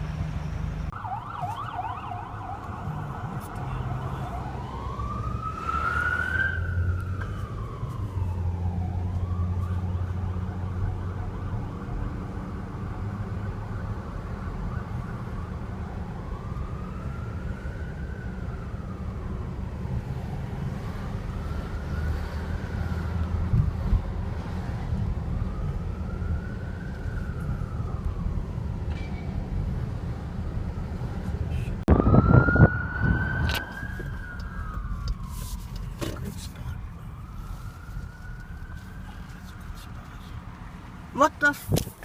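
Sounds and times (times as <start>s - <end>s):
emergency vehicle siren wailing: 0.9s - 41.6s.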